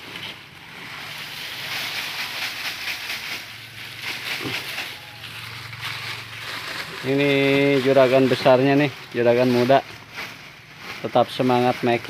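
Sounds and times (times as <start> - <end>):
paper trays and dry leaves rustling: 0.0 - 12.0.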